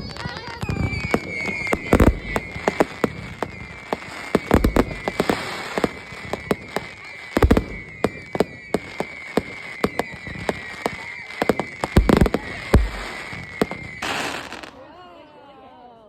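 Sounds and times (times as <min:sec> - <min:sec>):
fireworks cracks and pops: 0:00.0 - 0:14.8
fireworks bangs: 0:00.0 - 0:14.9
high falling whistle: 0:00.5 - 0:14.8.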